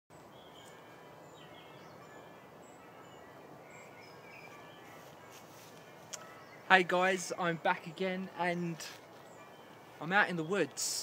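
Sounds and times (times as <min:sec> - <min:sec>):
distant bird chirps: 0:00.1 - 0:11.0.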